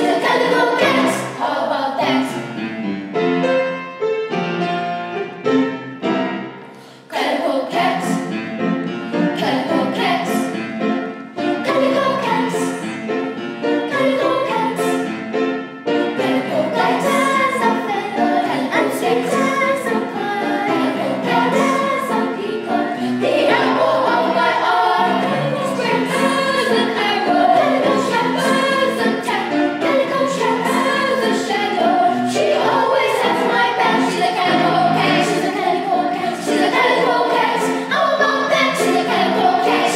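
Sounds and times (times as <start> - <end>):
girls choir singing: 0.0 - 2.5, 7.0 - 8.5, 9.1 - 10.6, 11.2 - 13.0, 13.6 - 15.2, 15.9 - 39.9.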